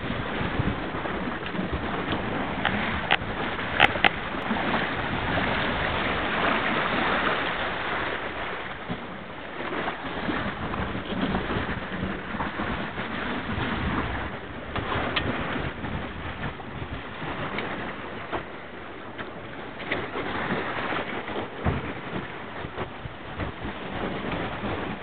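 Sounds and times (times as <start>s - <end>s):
water rushing along a hull: 0.0s - 25.0s
wind buffeting microphone: 0.0s - 25.0s.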